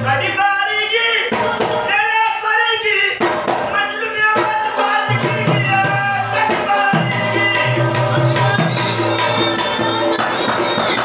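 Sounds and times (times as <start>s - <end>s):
plucked rabab melody: 0.0s - 2.4s, 3.2s - 11.0s.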